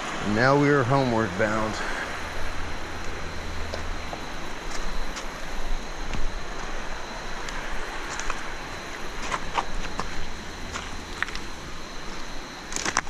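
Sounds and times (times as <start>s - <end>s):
rushing outdoor noise: 0.0s - 13.0s
light footsteps on trail: 1.8s - 13.0s.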